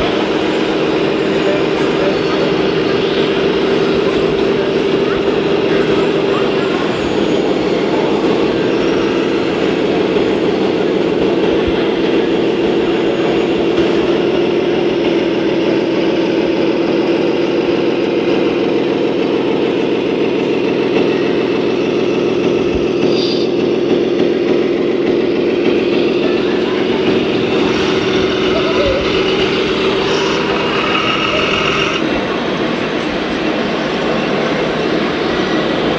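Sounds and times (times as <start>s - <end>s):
model vehicle motor drone: 0.0s - 19.8s, 26.2s - 35.9s.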